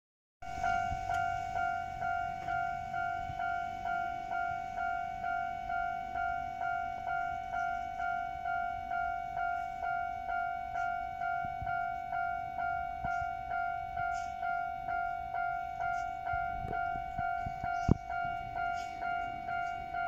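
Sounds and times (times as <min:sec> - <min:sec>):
level-crossing warning bell ringing: 0:00.4 - 0:20.0.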